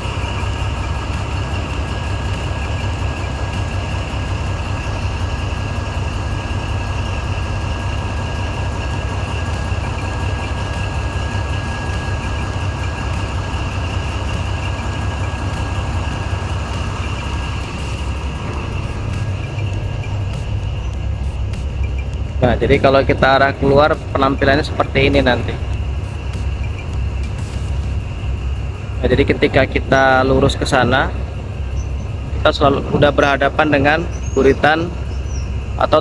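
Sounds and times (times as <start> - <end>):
boat diesel engine rumbling: 0.0 - 36.0
faint steady whine: 0.0 - 36.0.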